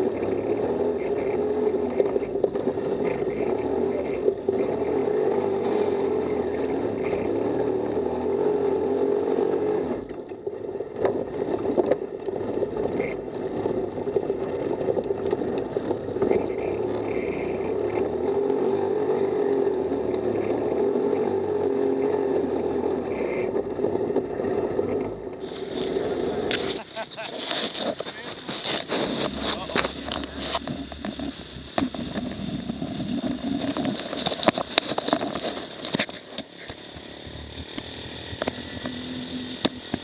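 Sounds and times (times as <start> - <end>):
buggy engine running: 0.0 - 40.0.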